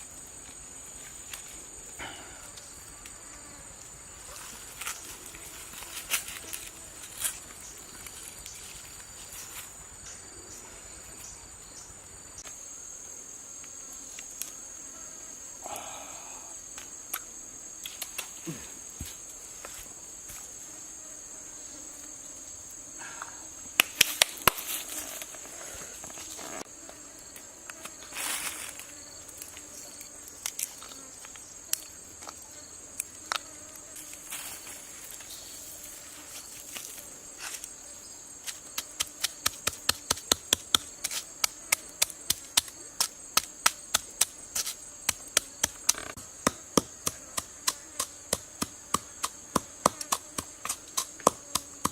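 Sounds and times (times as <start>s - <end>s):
insects trilling: 0.0s - 51.9s.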